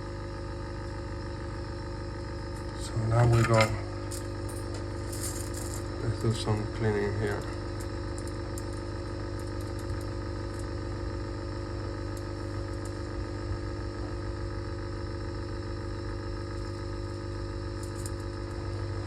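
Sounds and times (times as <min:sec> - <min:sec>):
bench motor humming: 0:00.0 - 0:19.0.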